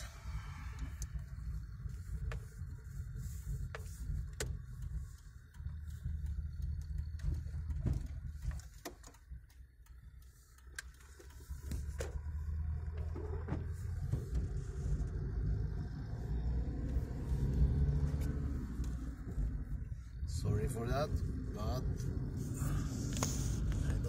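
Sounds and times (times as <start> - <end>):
car driving on snow from inside: 0.0 - 24.0.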